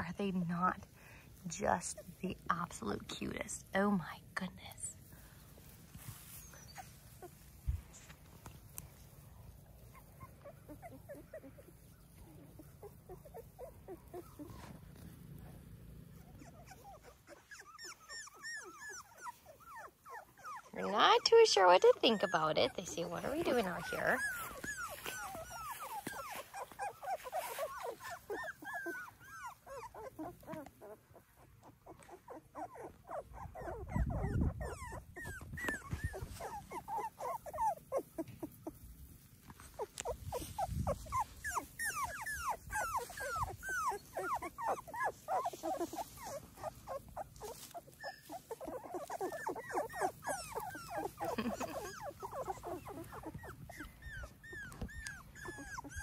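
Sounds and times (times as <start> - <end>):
puppies whimpering and squeaking: 5.6 - 15.5, 16.1 - 56.0.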